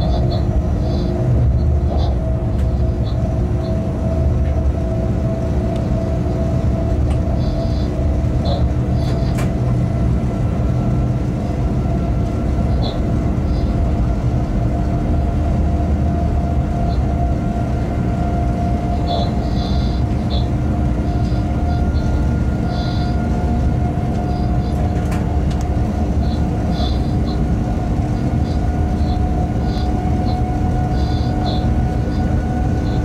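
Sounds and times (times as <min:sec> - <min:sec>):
steady hum: 0:00.0 - 0:33.0
wheels rumbling on rails: 0:00.0 - 0:33.0.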